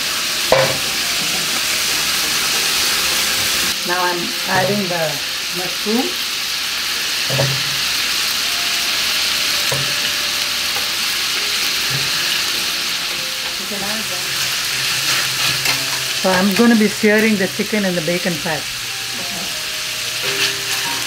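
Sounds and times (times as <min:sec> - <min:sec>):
bacon frying in a pan: 0:00.0 - 0:21.0
mushrooms sizzling in butter: 0:00.0 - 0:21.0.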